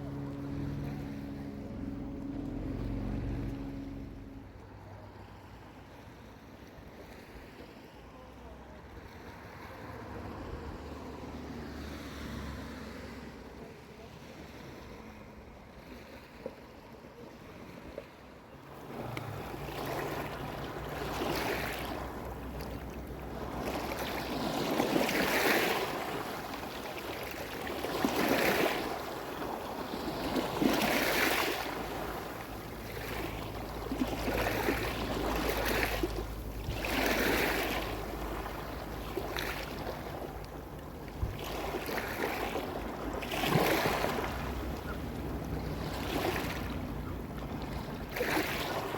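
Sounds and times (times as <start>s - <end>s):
waves washing on beach: 0.0s - 48.9s.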